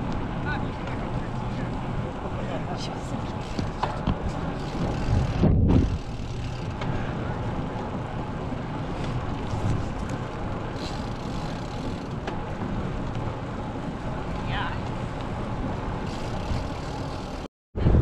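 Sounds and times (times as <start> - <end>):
tyres rolling on asphalt: 0.0 - 17.5
wind rushing over microphone: 3.3 - 18.0.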